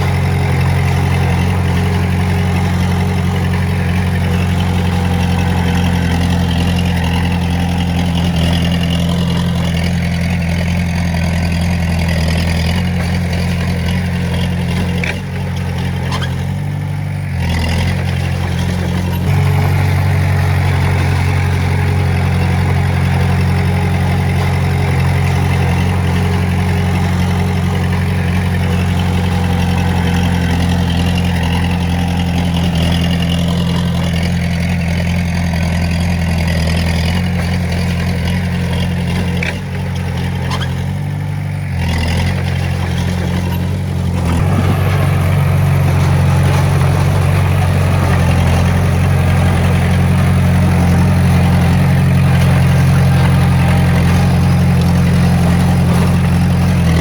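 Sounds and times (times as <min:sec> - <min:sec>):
heavy equipment diesel engine running: 0:00.0 - 0:57.0.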